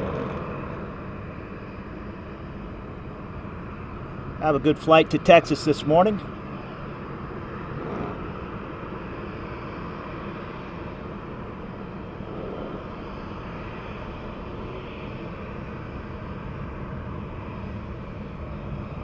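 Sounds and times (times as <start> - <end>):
jet airliner engine noise: 0.0 - 19.0.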